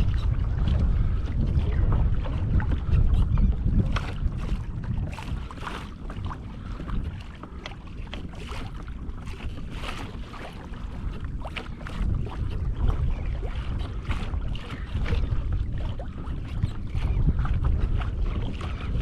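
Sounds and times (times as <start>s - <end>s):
water splashing and lapping: 0.0s - 19.0s
wind buffeting microphone: 0.0s - 19.0s.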